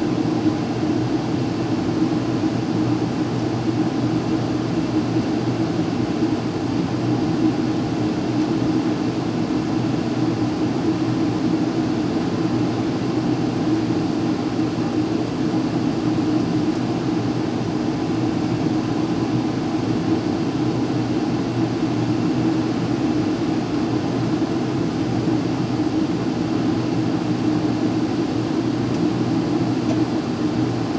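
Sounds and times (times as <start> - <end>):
furnace air rushing with hum: 0.0 - 30.9.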